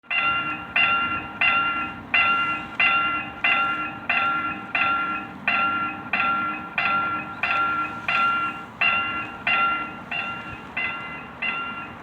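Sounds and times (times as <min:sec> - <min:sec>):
crossing warning bell ringing: 0:00.0 - 0:12.0.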